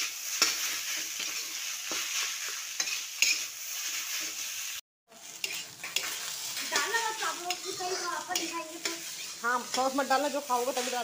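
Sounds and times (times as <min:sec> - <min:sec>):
rice sizzling in a pan: 0:00.0 - 0:11.0
steel spatula scraping a pan: 0:00.0 - 0:11.0.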